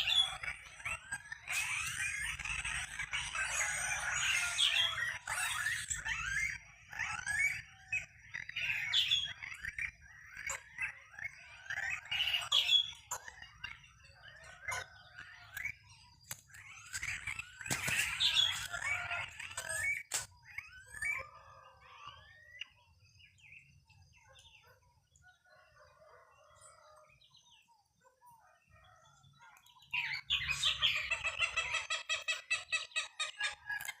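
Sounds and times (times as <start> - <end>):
birds singing and chirping: 0.0 - 34.0.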